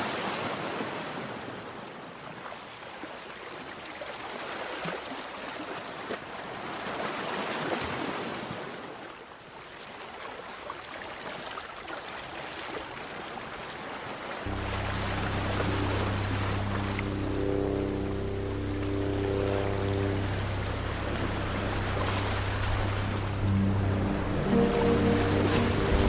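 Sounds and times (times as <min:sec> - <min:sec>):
sea waves on a beach: 0:00.0 - 0:26.0.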